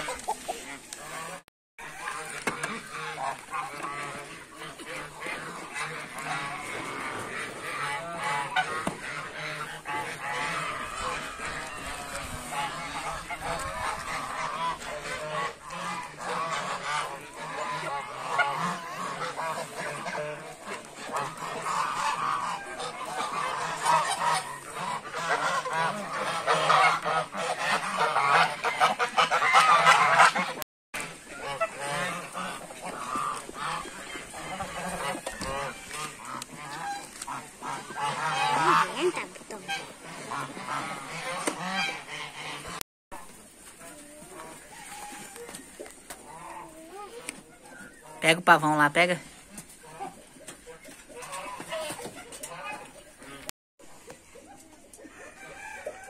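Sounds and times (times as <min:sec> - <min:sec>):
geese honking: 0:00.0 - 0:56.0.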